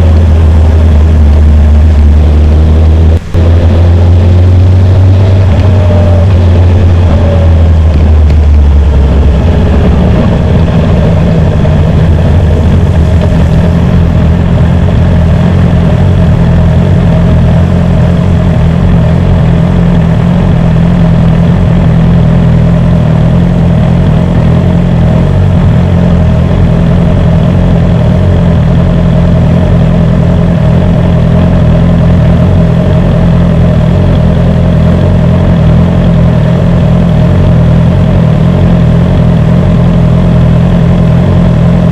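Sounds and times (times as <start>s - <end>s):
deep low rumble: 0.0s - 41.9s
motorcycle engine running: 0.0s - 41.9s.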